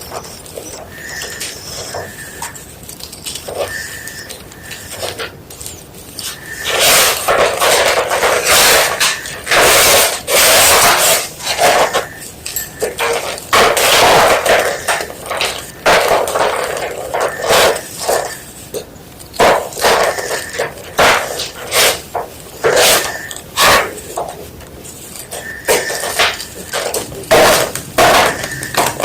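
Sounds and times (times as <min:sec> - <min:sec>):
chalk block crunching: 0:00.0 - 0:29.0.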